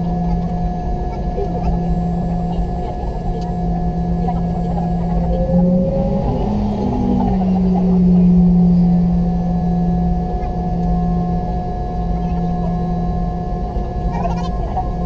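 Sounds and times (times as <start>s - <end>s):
jet engines droning and whining: 0.0s - 15.0s.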